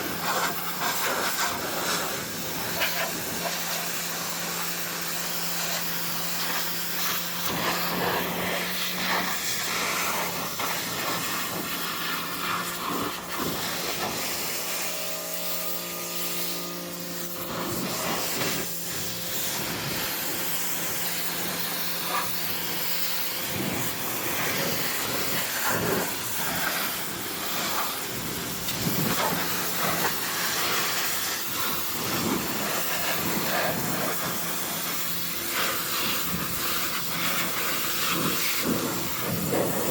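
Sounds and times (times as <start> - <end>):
water spraying and splashing: 0.0 - 39.9.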